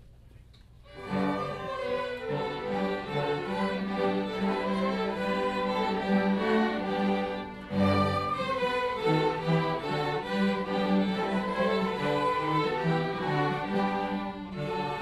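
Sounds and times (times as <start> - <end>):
orchestra playing: 0.8 - 15.0.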